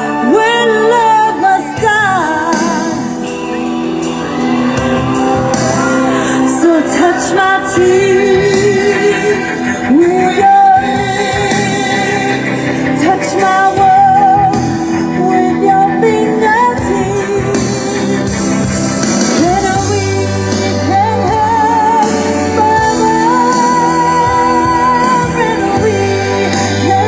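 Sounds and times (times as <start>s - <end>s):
backing music: 0.0s - 27.0s
woman singing pop song: 0.0s - 27.0s.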